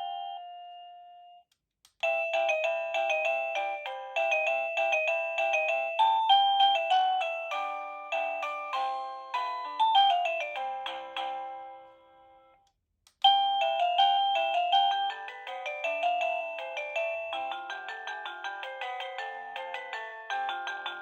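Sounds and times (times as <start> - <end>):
doorbell chime melody: 0.0 - 12.6, 13.2 - 21.0.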